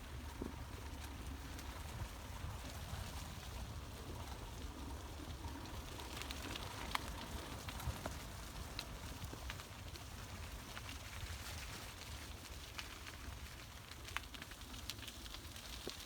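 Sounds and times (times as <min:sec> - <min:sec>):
bicycle rumbling on rough surface: 0:00.0 - 0:16.0
small crackles and ticks: 0:00.0 - 0:16.0.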